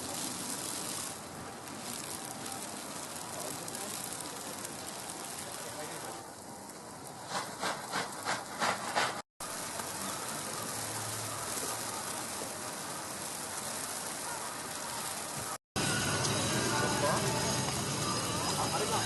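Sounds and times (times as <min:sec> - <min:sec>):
wind and falling snow hiss: 0:00.0 - 0:19.0.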